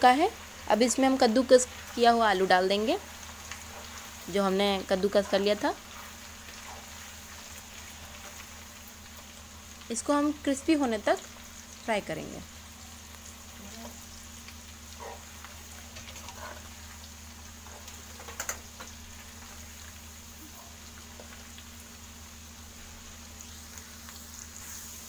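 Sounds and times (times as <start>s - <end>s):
potato frying in oil: 0.0s - 25.0s.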